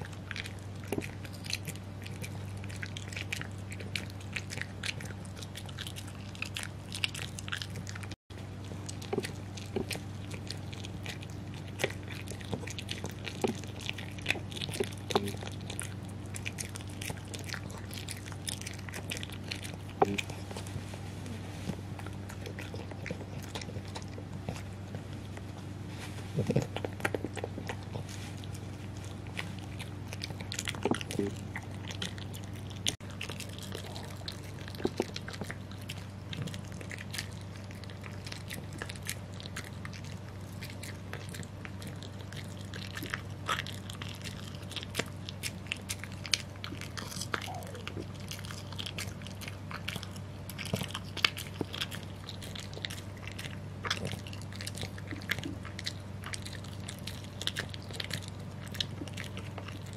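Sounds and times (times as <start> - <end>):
dog chewing: 0.0 - 59.9.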